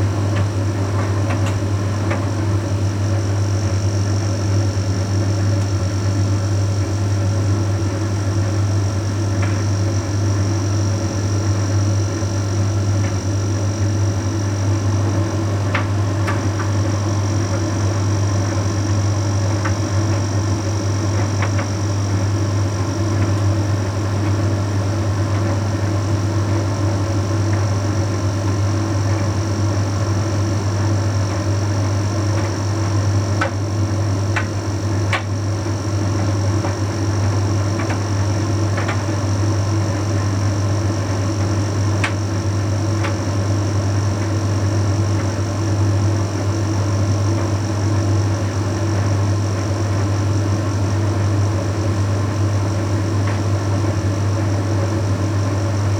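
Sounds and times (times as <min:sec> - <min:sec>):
tumble dryer humming: 0:00.0 - 0:55.9.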